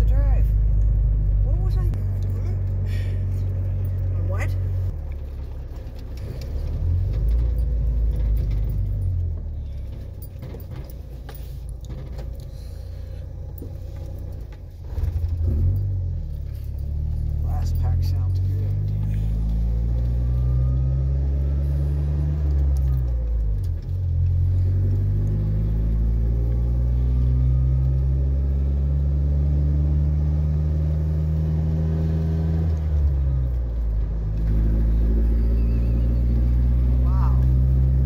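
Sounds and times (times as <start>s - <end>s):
engine exhaust drone while driving: 0.0s - 38.0s.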